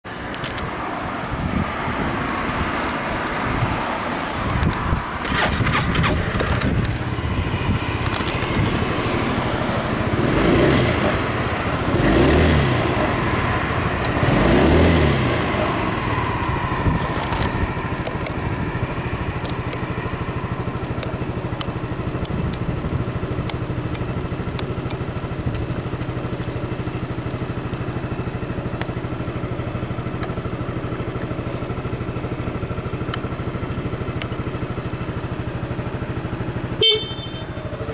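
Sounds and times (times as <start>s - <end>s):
scooter engine idling: 2.5s - 37.9s.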